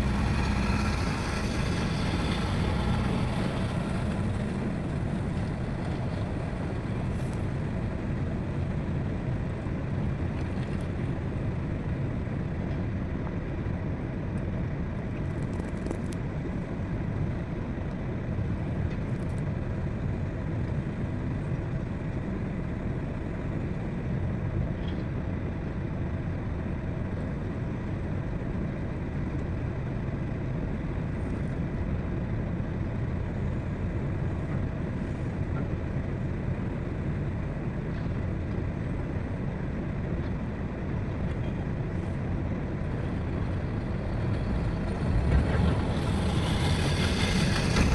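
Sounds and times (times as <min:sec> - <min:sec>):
heavy diesel machinery rumble: 0:00.0 - 0:47.9.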